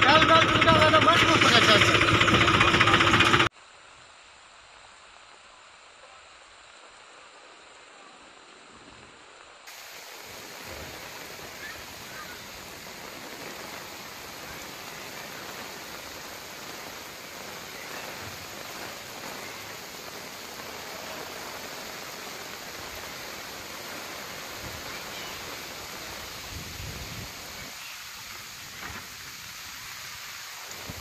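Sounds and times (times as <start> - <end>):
heavy rain on standing water: 0.0 - 31.0.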